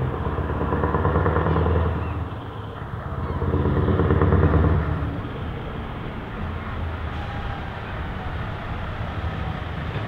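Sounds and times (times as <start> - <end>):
diesel truck engine deep roar: 0.0 - 10.0.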